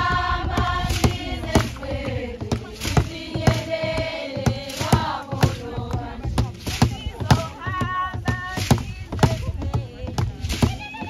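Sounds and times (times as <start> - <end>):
sharp beats: 0.0 - 9.4
group of voices singing: 0.0 - 11.0.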